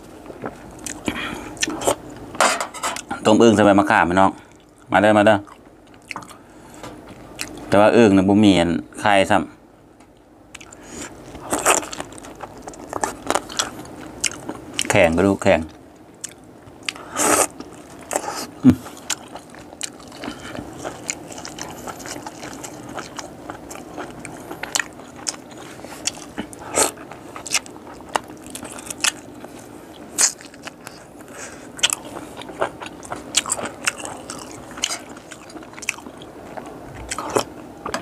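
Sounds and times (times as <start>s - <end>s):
crunching and wet chewing: 0.2s - 2.0s, 4.4s - 7.7s, 10.5s - 38.0s.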